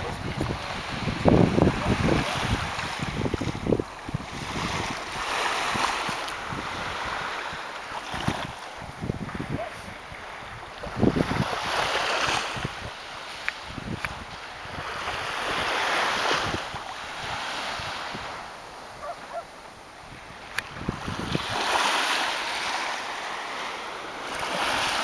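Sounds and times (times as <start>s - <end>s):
wind buffeting microphone: 0.0s - 22.8s
small waves lapping on sand: 0.0s - 25.0s.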